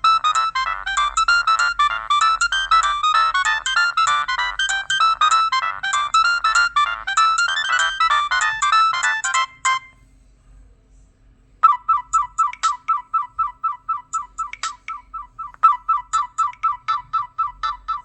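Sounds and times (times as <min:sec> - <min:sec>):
mobile phone ringtone melody: 0:00.0 - 0:10.0, 0:11.6 - 0:18.0.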